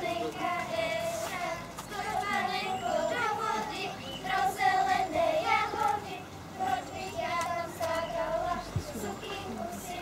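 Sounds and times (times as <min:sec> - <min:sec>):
girls singing a folk song: 0:00.0 - 0:10.0.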